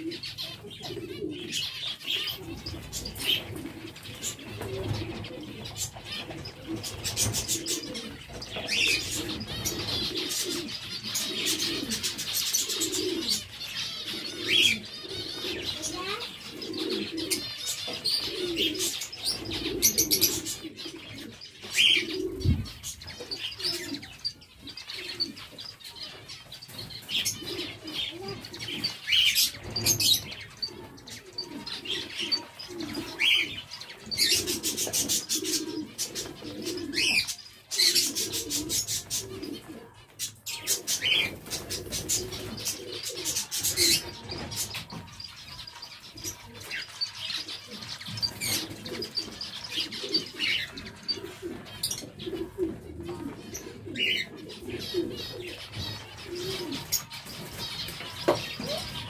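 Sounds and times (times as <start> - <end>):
low repeated cooing: 0.0 - 59.0.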